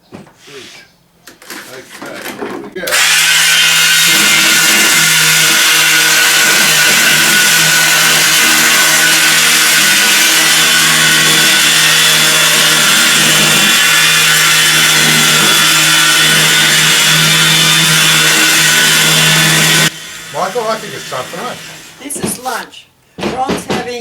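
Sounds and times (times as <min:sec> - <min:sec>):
power sander motor hum: 0:02.9 - 0:22.5
sander hissing on wood: 0:02.9 - 0:22.7.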